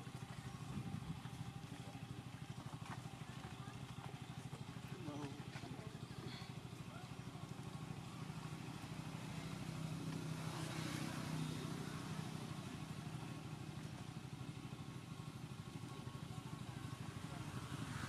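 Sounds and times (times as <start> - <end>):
engine pulsing hum: 0.0 - 18.0.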